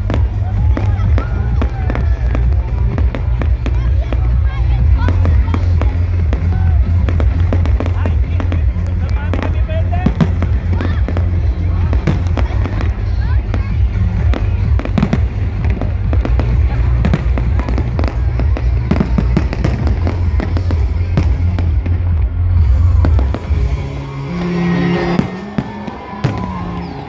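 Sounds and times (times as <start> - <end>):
heavy low rumble: 0.0 - 26.8
fireworks bangs and crackles: 0.0 - 27.0
music playing: 0.0 - 27.0.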